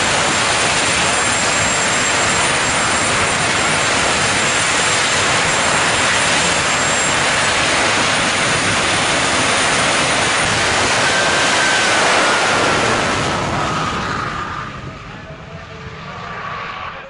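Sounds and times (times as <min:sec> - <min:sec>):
high turbine whine: 0:00.0 - 0:17.0
jet engines roaring: 0:00.0 - 0:17.0.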